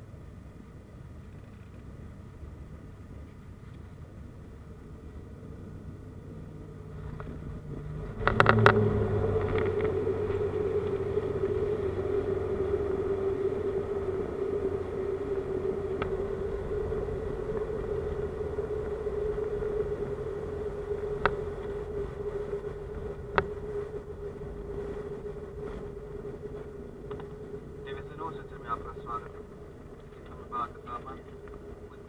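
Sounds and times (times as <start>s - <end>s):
aircraft engine drone: 0.0s - 32.0s
low rumble: 0.0s - 32.0s
propeller drone: 0.0s - 32.0s.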